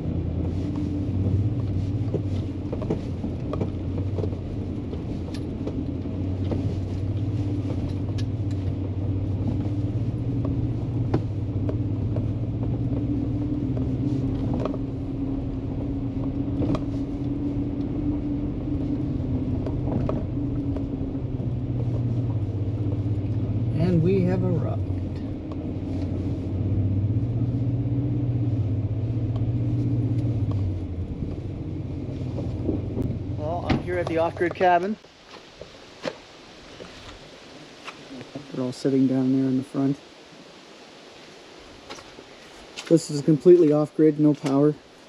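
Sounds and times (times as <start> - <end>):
vehicle engine humming: 0.0 - 45.0.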